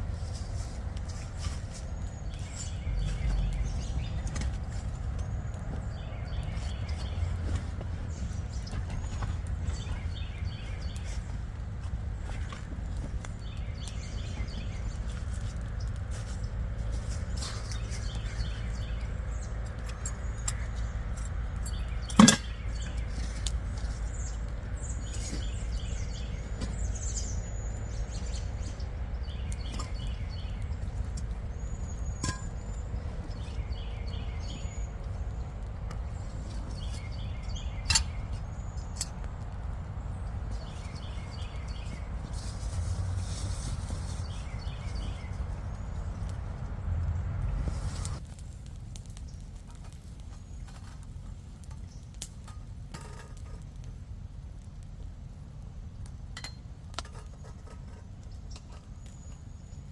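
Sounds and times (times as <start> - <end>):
steady low rumble: 0.0 - 50.6
songbirds calling: 0.0 - 59.9.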